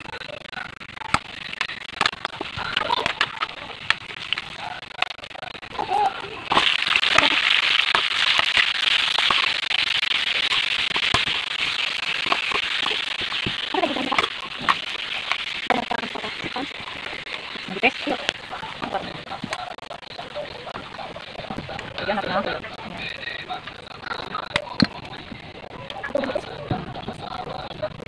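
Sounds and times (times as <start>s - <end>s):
onion frying in hot oil: 0.0s - 28.0s
oil popping: 0.5s - 28.0s.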